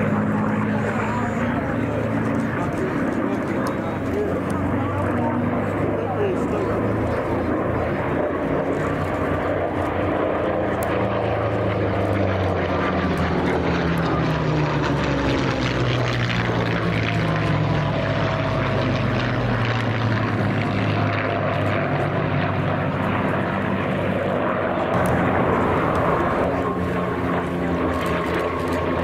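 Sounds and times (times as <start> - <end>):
propeller aircraft flying past: 0.0 - 29.0.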